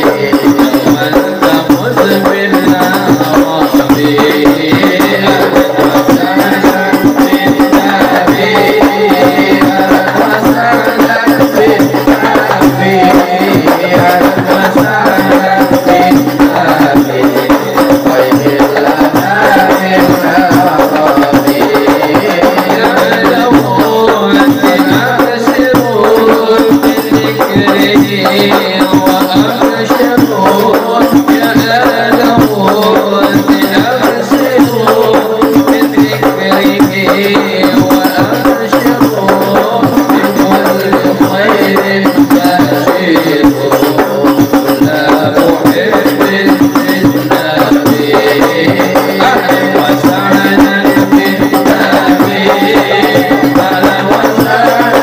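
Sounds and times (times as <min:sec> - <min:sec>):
group chanting devotional verses: 0:00.0 - 0:55.0
hand-struck frame drums: 0:00.0 - 0:55.0.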